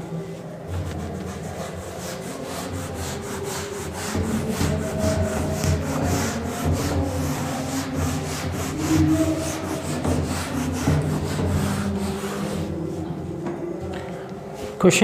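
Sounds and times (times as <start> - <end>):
duster scrubbing a whiteboard: 0.6 - 13.4.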